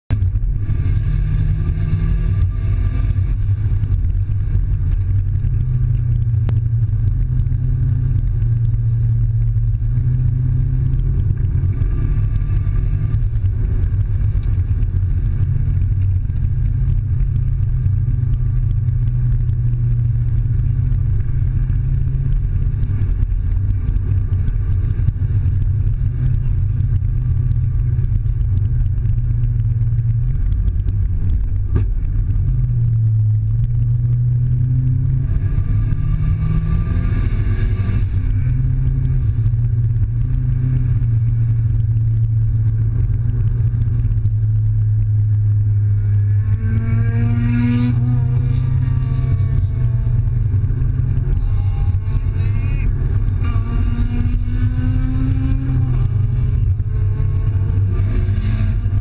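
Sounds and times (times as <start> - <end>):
car engine and tyre drone: 0.1 - 59.0.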